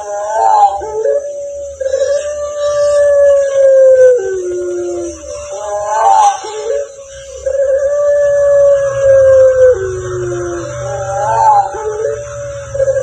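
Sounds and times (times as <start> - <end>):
animal howling call: 0.0 - 13.0
short wavering call: 0.0 - 13.0.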